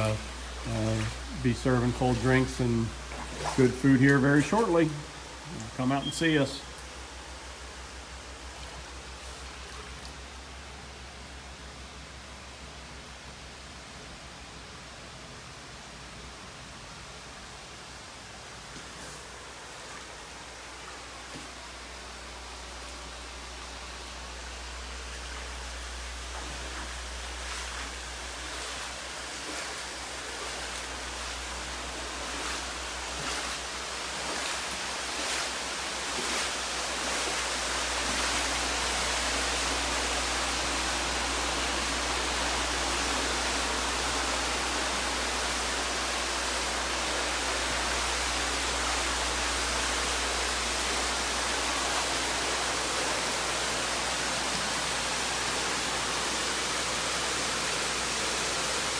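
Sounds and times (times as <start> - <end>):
water rushing from hoses: 0.0 - 11.2, 18.4 - 58.9.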